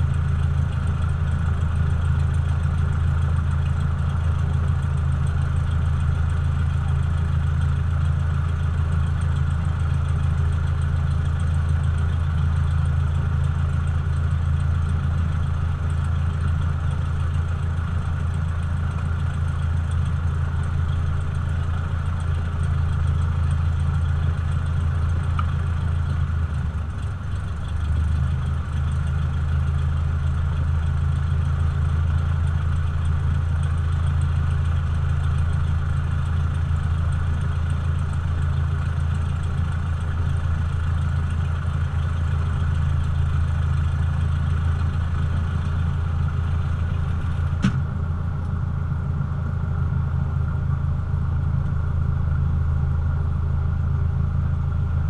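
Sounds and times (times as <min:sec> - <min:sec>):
propeller plane engine running: 0:00.0 - 0:55.0.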